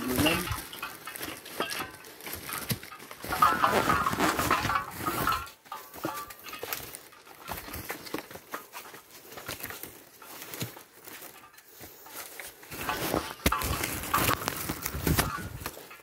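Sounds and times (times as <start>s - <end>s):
footsteps on rocks and leaves: 0.0s - 16.0s.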